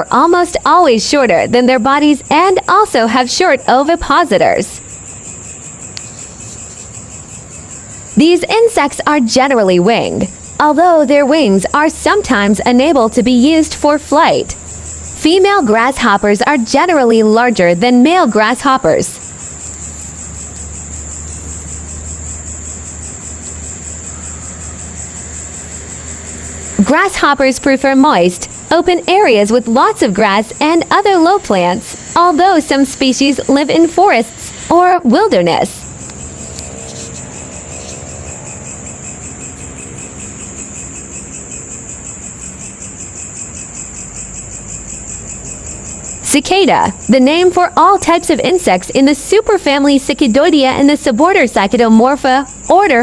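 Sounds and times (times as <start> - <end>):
insect chirring: 0.0 - 53.0.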